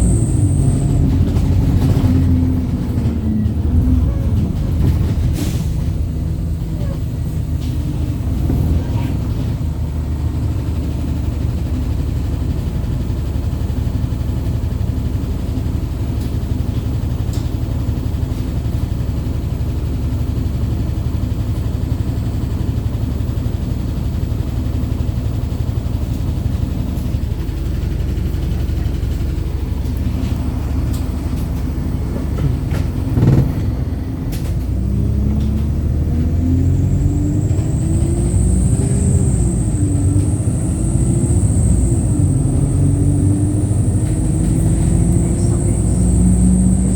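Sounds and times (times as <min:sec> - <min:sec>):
bus engine and road rumble: 0:00.0 - 0:46.9.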